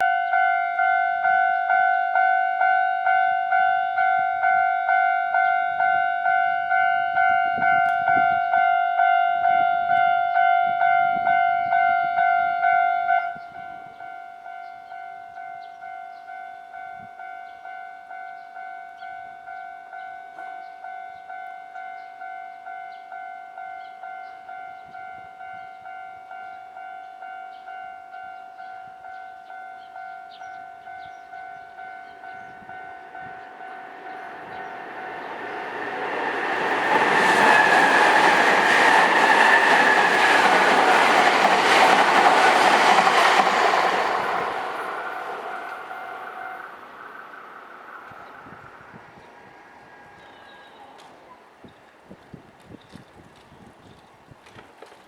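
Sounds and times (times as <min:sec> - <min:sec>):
level-crossing warning bell ringing: 0:00.0 - 0:51.4.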